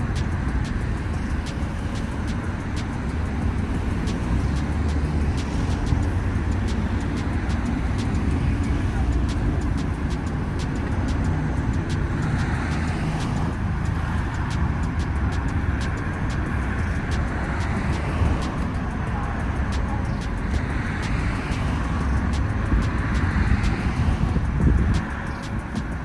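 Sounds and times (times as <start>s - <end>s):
faint ticking: 0.0s - 26.0s
road traffic rumble: 0.0s - 26.0s.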